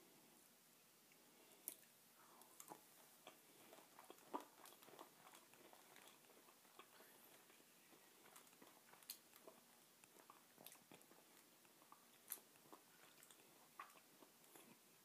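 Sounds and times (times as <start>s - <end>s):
person chewing and crunching: 2.4s - 15.0s.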